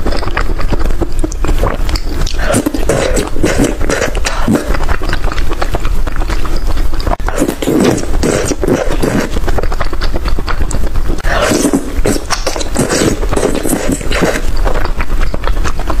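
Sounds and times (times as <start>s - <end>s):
person chewing with smacking clicks: 0.0s - 16.0s.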